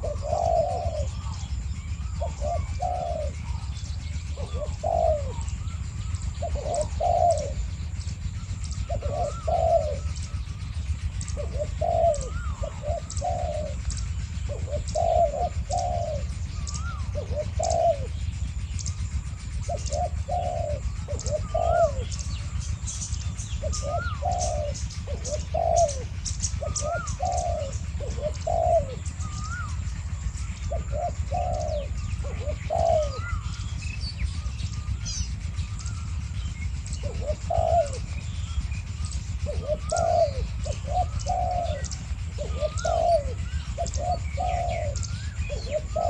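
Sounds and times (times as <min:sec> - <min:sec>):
doves cooing: 0:00.0 - 0:46.0
fainter higher bird calls: 0:00.0 - 0:46.0.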